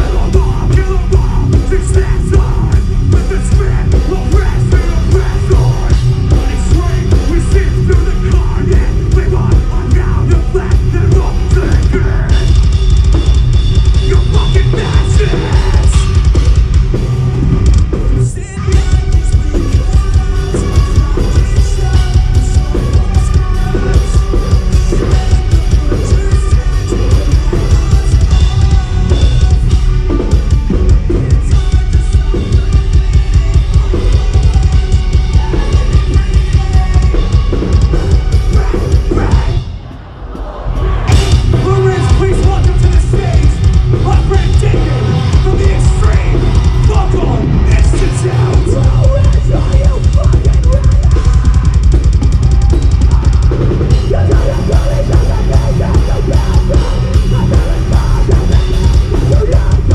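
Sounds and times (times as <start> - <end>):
distorted guitars: 0.0 - 59.9
drums: 0.0 - 59.9
metal band playing live: 0.0 - 59.9
vocals: 0.0 - 59.9.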